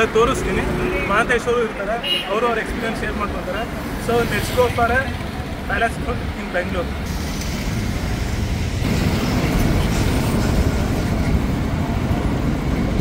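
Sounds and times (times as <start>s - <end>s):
motorcycle engines rumbling: 0.0s - 13.0s
road traffic: 0.0s - 13.0s.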